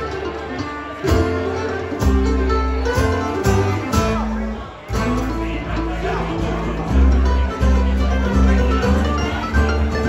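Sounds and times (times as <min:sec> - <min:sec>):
acoustic guitar: 0:00.0 - 0:10.0
upright bass notes: 0:00.0 - 0:10.0.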